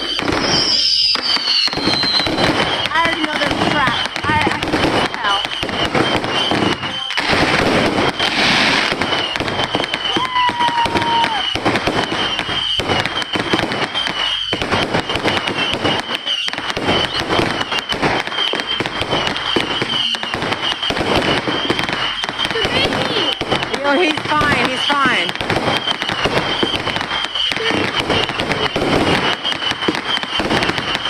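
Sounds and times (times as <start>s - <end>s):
firework whistle: 0.0s - 31.0s
fireworks crackling and popping: 0.0s - 31.0s.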